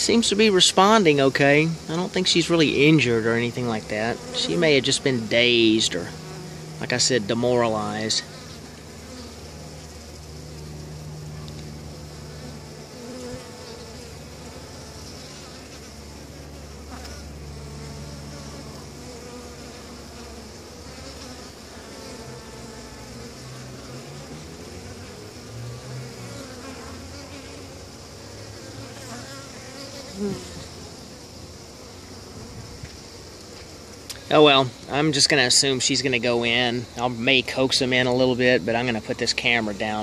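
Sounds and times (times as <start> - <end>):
honeybees buzzing: 0.0 - 40.0.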